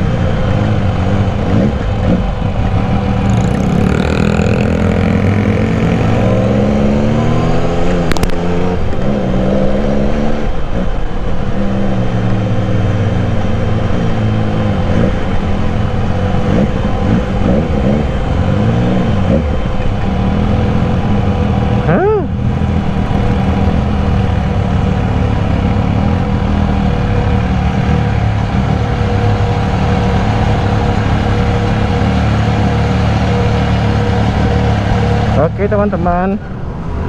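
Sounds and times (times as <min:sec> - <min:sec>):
motorcycle engine running: 0:00.0 - 0:09.2, 0:09.8 - 0:36.7.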